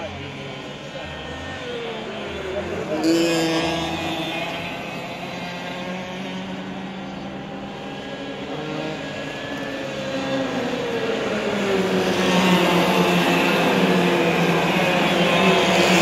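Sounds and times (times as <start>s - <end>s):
kart engines at full throttle: 0.0s - 16.0s.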